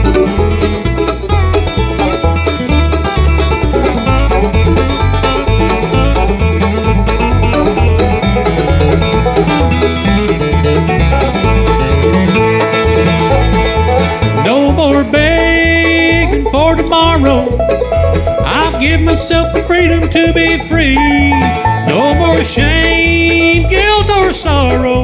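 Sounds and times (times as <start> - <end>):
fast banjo picking: 0.0 - 25.0
guitar: 0.0 - 25.0
steady bass line: 0.0 - 25.0.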